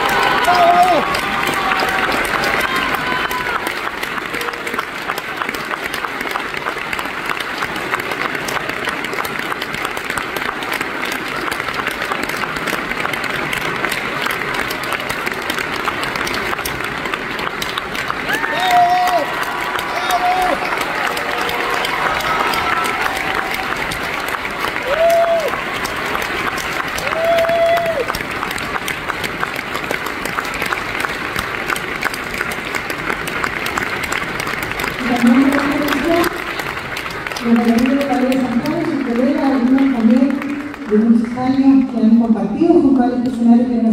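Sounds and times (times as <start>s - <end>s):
audience applauding: 0.0s - 42.4s.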